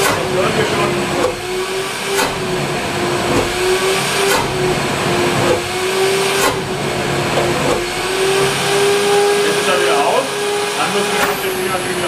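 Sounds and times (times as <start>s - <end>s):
dust extractor motor whine: 0.0s - 12.0s.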